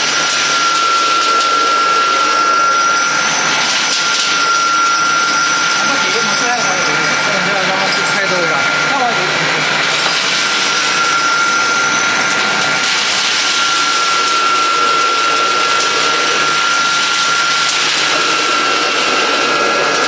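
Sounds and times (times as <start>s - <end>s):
grinder motor grinding with high whine: 0.0s - 20.0s.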